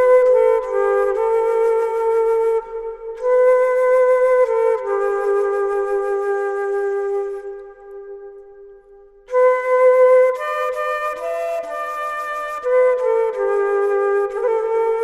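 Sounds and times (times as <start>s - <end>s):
slow flute melody: 0.0s - 15.0s.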